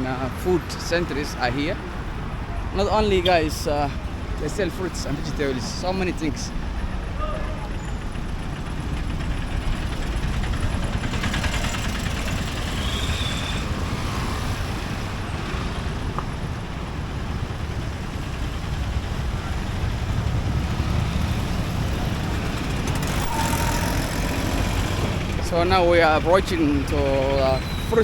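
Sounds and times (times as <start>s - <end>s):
passing cars and scooters: 0.0s - 28.0s.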